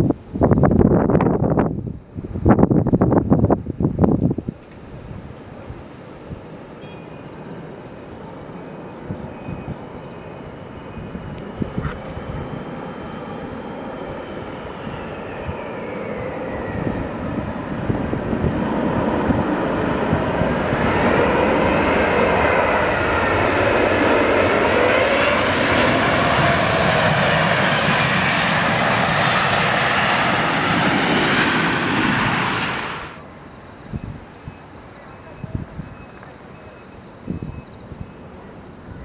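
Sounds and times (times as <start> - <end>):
jet airliner engines whining: 0.0 - 39.0.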